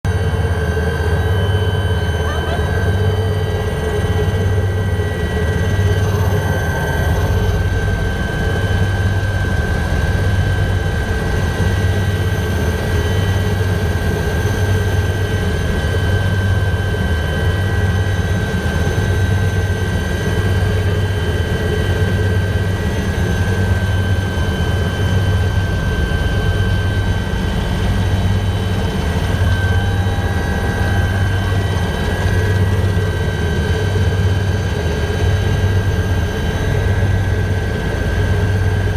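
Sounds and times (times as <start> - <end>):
helicopter rotor beat: 0.1 - 38.9.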